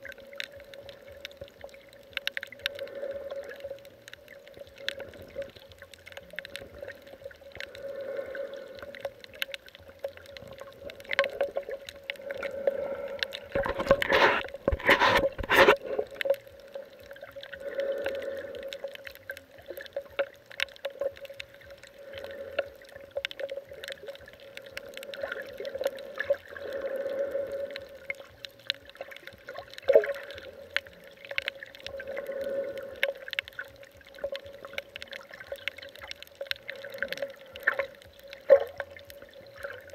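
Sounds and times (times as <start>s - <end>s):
faint steady hum: 0.0s - 39.9s
muffled underwater swells: 0.0s - 39.9s
underwater clicks: 0.0s - 39.9s.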